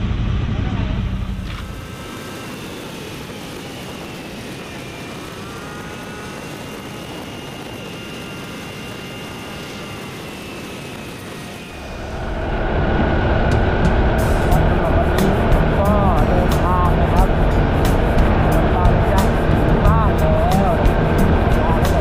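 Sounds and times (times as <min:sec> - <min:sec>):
faint engine whine: 0:00.0 - 0:22.0
wind and road noise: 0:00.0 - 0:22.0.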